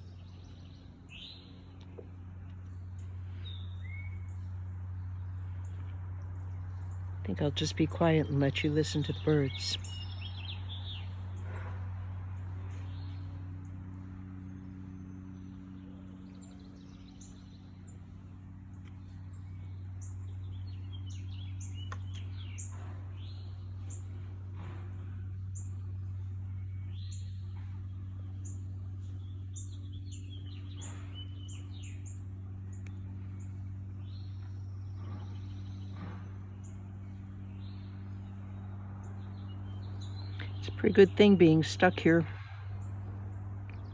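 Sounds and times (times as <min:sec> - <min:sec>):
songbirds chirping: 0:00.0 - 0:43.9
steady low hum: 0:00.0 - 0:43.9.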